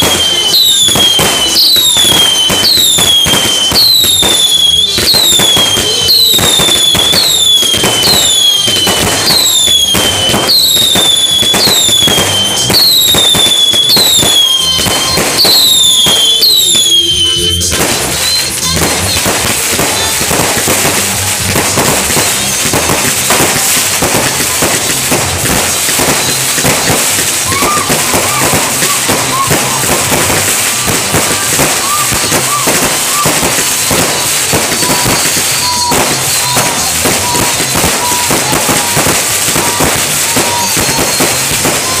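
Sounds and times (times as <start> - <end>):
firework whistle falling in pitch: 0.0 - 21.0, 25.7 - 42.0
dense crackling of bursting shells: 0.0 - 42.0
firework bangs: 0.0 - 42.0.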